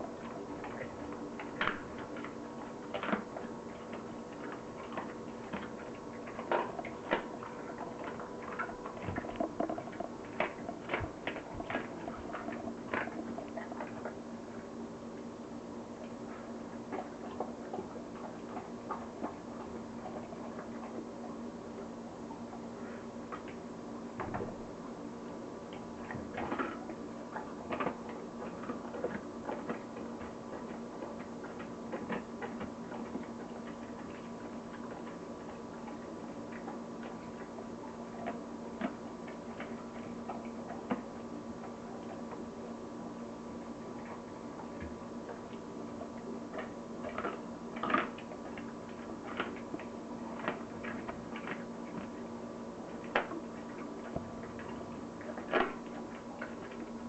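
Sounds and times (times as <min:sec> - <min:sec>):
dog chewing bones: 0:00.0 - 0:21.4, 0:22.4 - 0:57.0
steady hum: 0:00.0 - 0:57.0.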